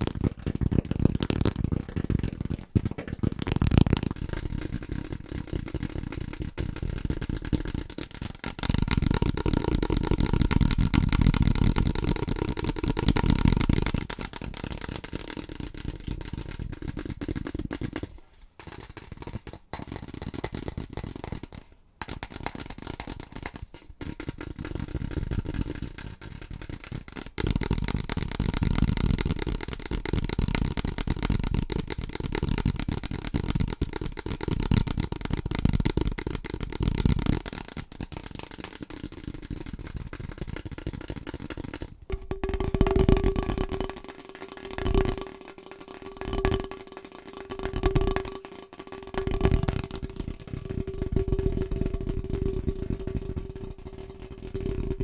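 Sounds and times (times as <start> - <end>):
rapid tapping on objects: 0.0 - 55.0.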